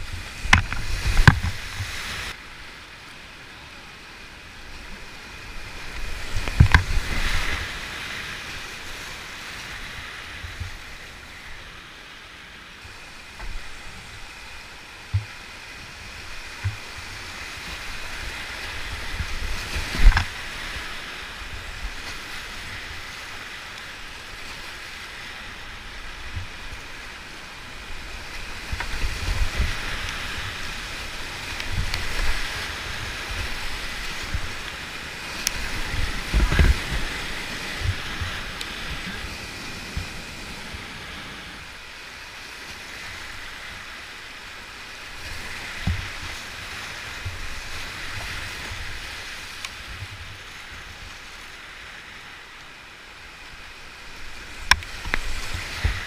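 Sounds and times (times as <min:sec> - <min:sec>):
whitewater rushing: 0:00.0 - 0:56.0.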